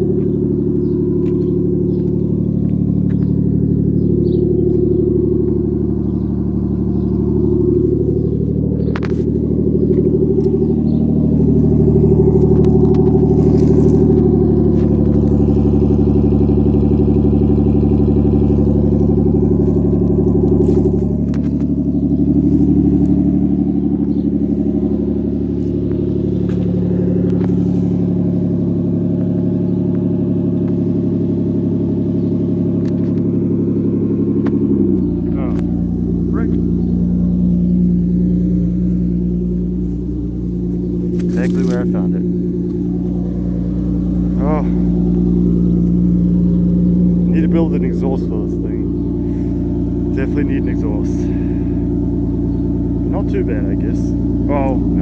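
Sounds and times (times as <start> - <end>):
car engine idling loudly: 0.0 - 55.0.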